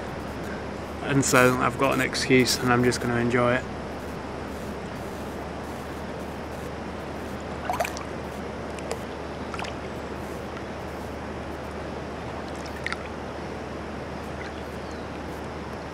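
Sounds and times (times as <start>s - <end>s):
steady rushing background: 0.0s - 13.0s
water splashes: 0.0s - 13.3s, 13.9s - 15.6s
pool water lapping: 0.0s - 15.9s.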